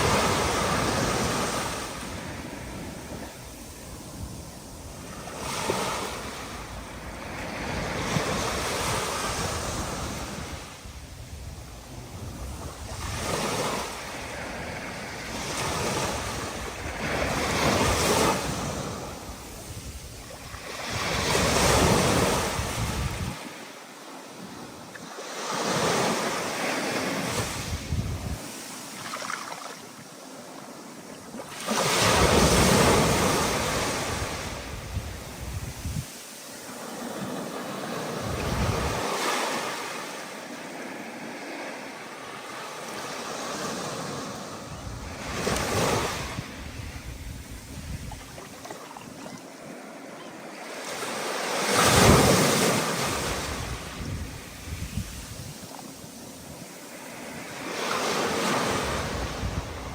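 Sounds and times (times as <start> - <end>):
ocean waves breaking: 0.0 - 10.9, 11.9 - 59.9
wind: 0.0 - 59.9.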